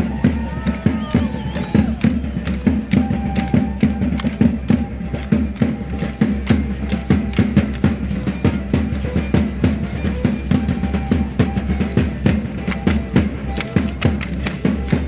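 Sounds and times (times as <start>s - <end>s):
drum beating fast rhythm: 0.0s - 15.0s
sharp percussive clicks: 0.6s - 15.0s.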